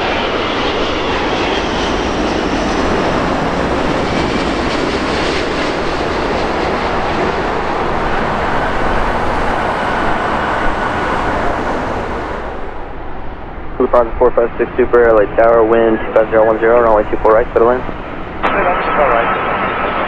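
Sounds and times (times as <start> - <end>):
jet airliner landing rumble: 0.0 - 20.0.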